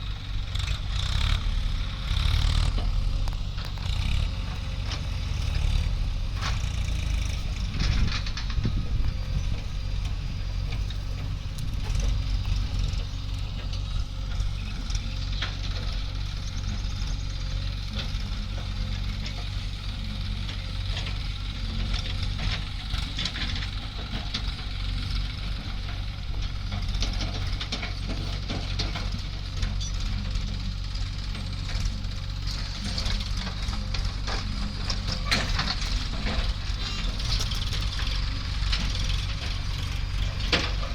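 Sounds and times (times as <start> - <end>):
diesel engines running: 0.0 - 40.9
machinery knocks and clatter: 2.1 - 40.9.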